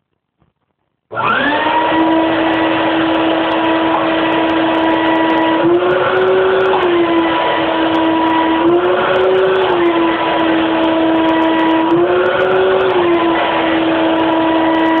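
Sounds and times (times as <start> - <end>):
shop vac motor whine: 1.1 - 15.0.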